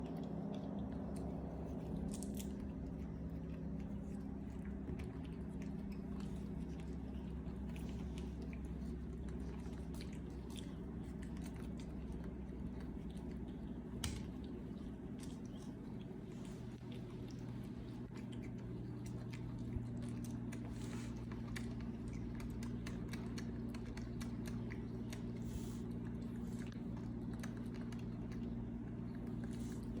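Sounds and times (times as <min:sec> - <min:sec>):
low hum: 0:00.0 - 0:30.0
monkeys chewing fruit: 0:00.0 - 0:30.0.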